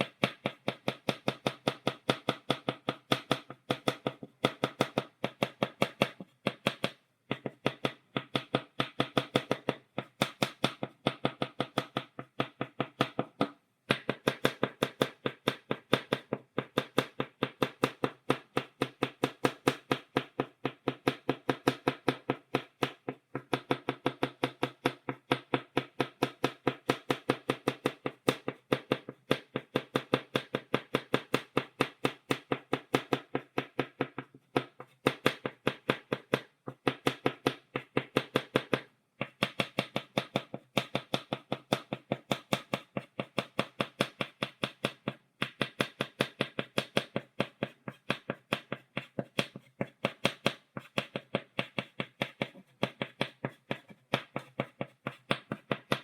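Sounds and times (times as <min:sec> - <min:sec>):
chalk tapping on blackboard: 0:00.0 - 0:56.0.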